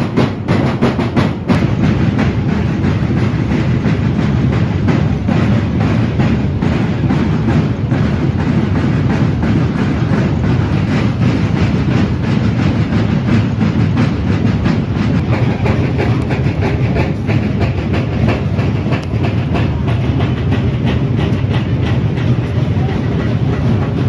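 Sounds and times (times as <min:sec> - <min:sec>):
massed snare and bass drums: 0:00.0 - 0:24.0.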